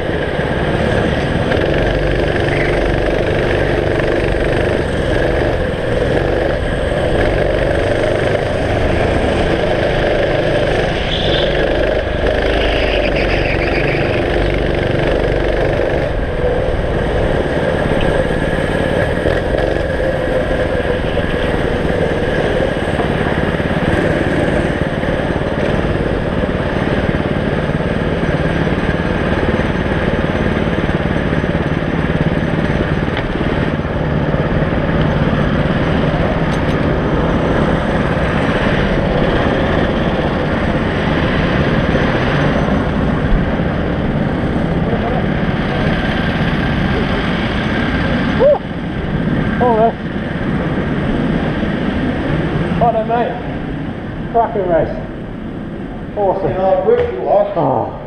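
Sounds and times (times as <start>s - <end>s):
kart engine revving: 0.0s - 54.3s.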